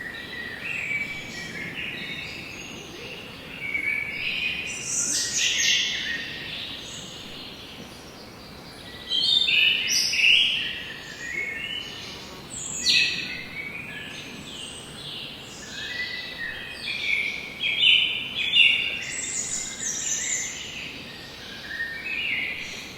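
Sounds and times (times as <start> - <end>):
songbirds chirping and trilling: 0.0 - 22.9.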